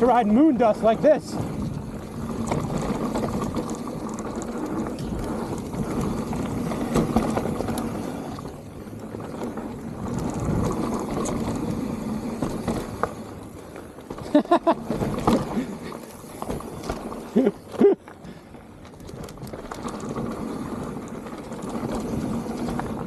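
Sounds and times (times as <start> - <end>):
bike rattling and clicking: 0.0 - 23.0
tyres rolling on loose dirt: 0.0 - 23.0.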